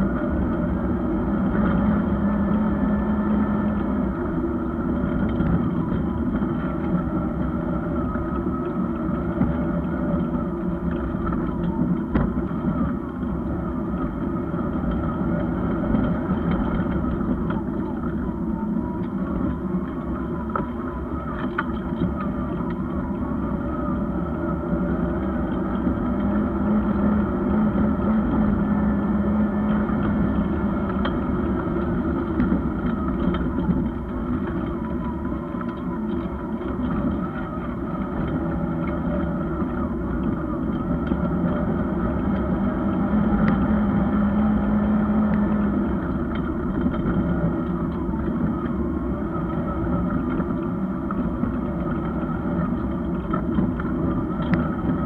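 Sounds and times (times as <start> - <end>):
car engine running under load: 0.0 - 55.0.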